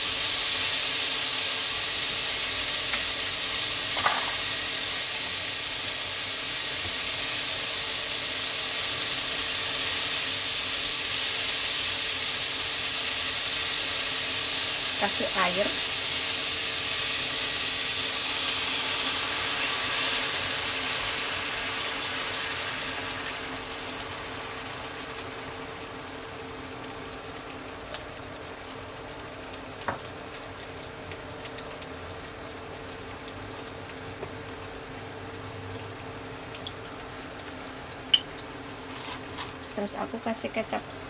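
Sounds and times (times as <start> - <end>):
water sizzling in hot wok: 0.0 - 41.0.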